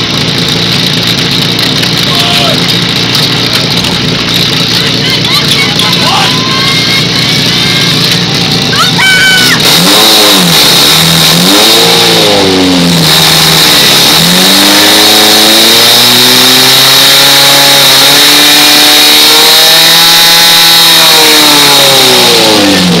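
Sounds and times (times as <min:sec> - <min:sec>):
pump engine revving: 0:00.0 - 0:23.0.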